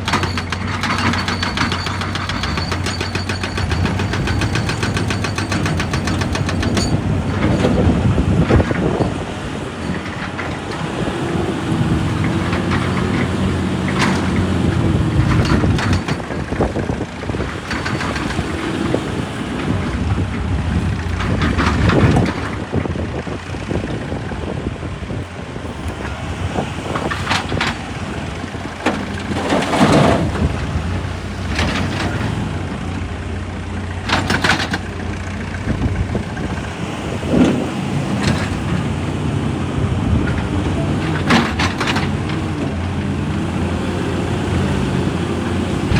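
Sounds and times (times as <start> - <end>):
rock and metal clanking scraping: 0.0 - 24.6, 25.2 - 45.9
diesel machinery droning: 0.0 - 45.9.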